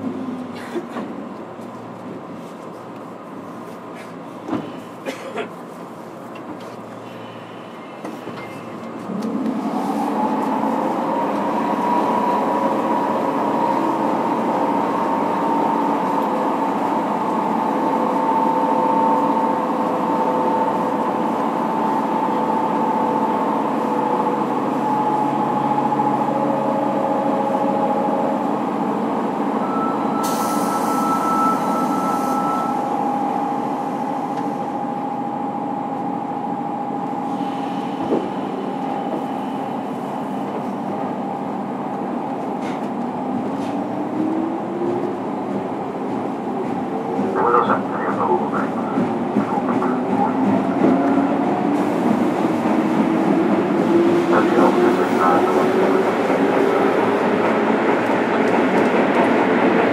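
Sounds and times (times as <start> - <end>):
wheels rumbling on rails: 0.0 - 30.2, 30.8 - 59.9.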